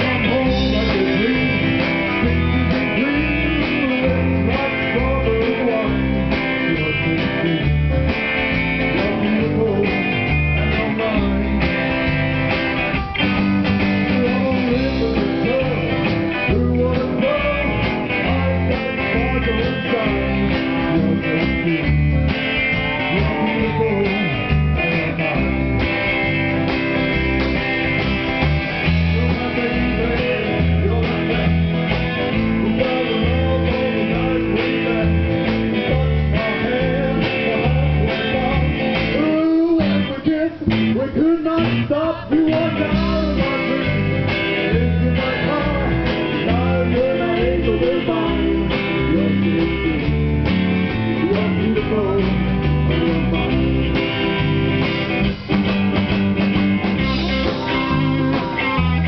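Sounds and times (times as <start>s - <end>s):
electric guitar: 0.0s - 59.0s
live rock band playing: 0.0s - 59.0s.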